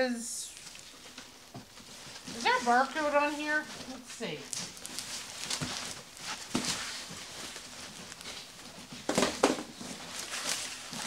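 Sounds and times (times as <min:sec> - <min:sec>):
cardboard scraping and rustling: 0:01.8 - 0:11.0.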